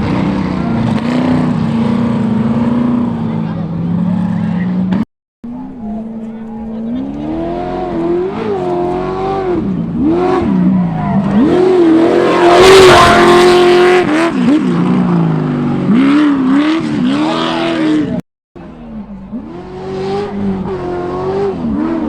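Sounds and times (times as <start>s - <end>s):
race buggy engine revving: 0.0s - 22.0s.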